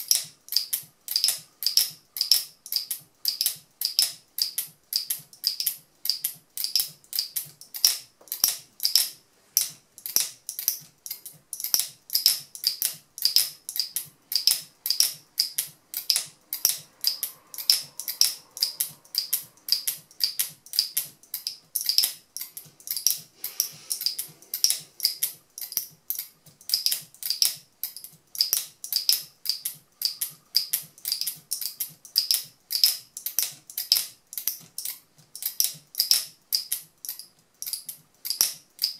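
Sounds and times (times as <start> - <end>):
locking mechanism clicking: 0.0 - 38.9.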